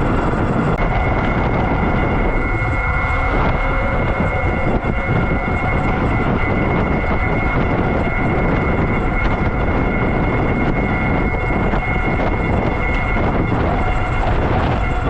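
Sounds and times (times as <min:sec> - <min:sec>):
high-pitched motor whine: 0:00.0 - 0:15.0
wind rushing over microphone: 0:00.0 - 0:15.0.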